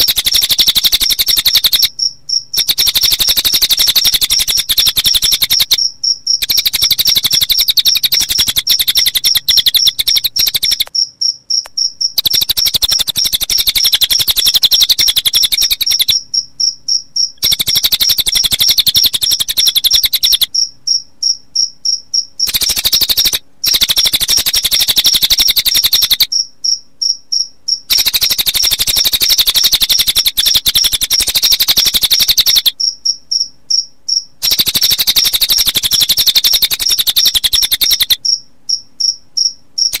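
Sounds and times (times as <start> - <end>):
bird chirping fast: 0.0 - 40.0
cricket trilling: 0.0 - 40.0.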